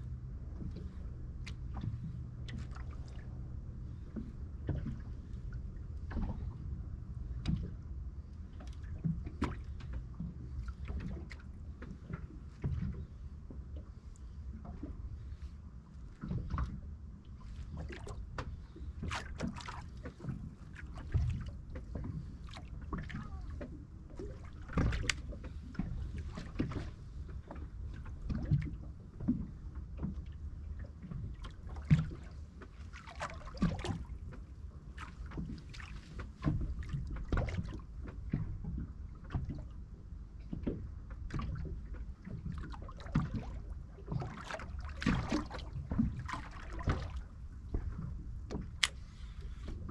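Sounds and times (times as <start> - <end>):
steady low rumble: 0.0 - 49.9
water slapping boat hull: 0.0 - 49.9.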